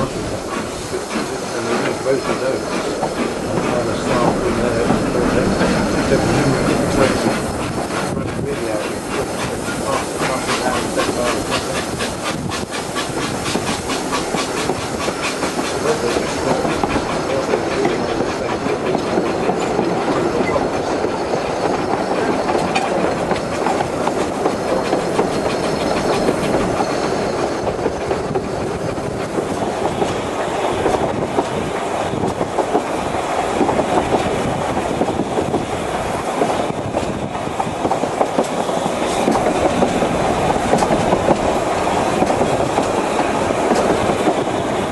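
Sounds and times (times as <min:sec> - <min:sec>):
train carriages rumbling: 0:00.0 - 0:44.9
wheels clattering over rail joints: 0:00.0 - 0:44.9.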